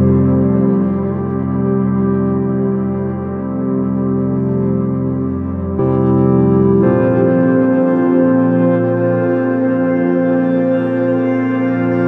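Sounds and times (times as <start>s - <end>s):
music of sustained chords: 0.0s - 12.0s.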